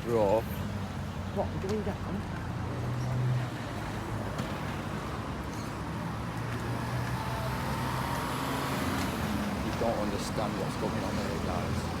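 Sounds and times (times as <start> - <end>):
outdoor noise: 0.0 - 12.0.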